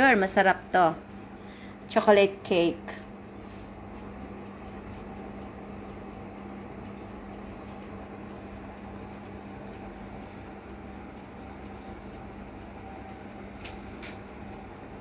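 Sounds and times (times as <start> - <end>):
electric oven humming: 0.0 - 15.0.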